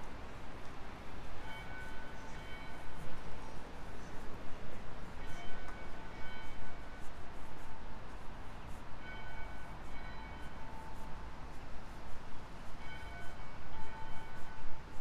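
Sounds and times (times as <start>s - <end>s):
city street ambience: 0.0s - 15.0s.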